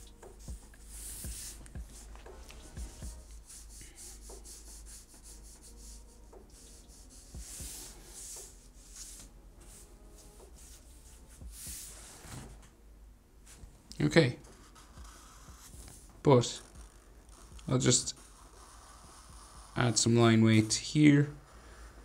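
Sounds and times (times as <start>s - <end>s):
marker rubbing across paper: 0.0s - 12.5s, 14.4s - 22.0s.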